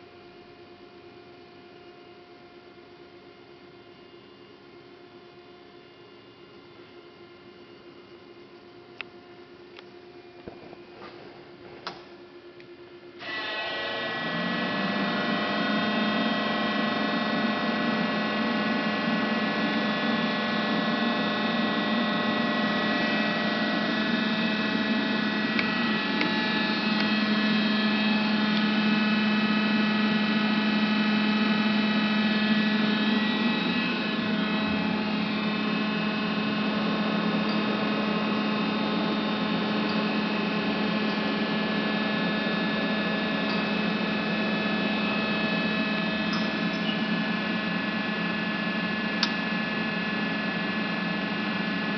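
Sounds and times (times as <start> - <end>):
lathe machine hum and whine: 0.0 - 51.9.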